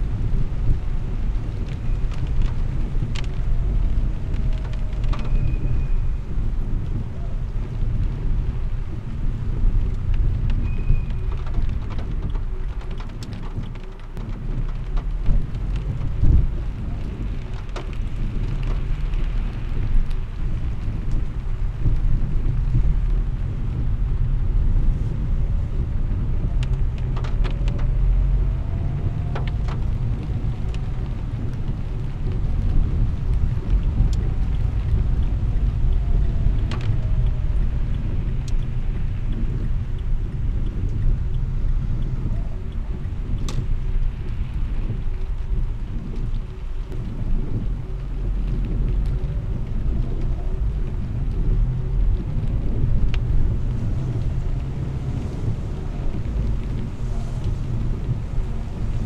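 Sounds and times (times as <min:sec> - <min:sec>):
rain on the windshield: 0:00.0 - 0:59.0
tyres and engine rumble: 0:00.0 - 0:59.0.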